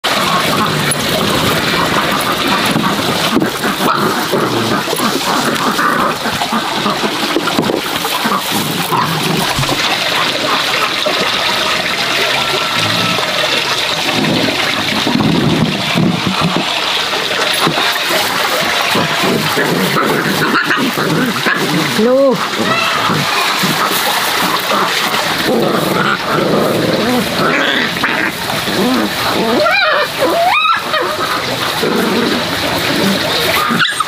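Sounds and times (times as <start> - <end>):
dogs and puppies: 0.0 - 34.0
rushing water: 0.0 - 34.0.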